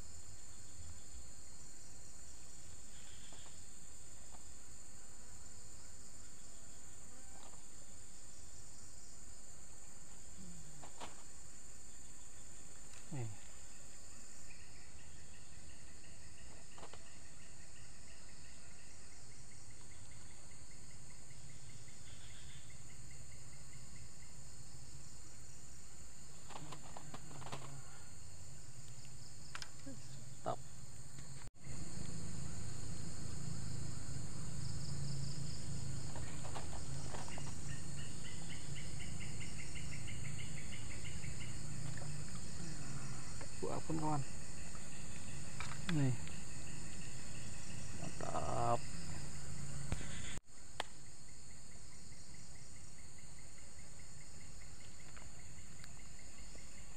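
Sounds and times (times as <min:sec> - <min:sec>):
insects shrilling drone: 0:00.0 - 0:56.9
rapid pulsed insect trill: 0:00.0 - 0:56.9.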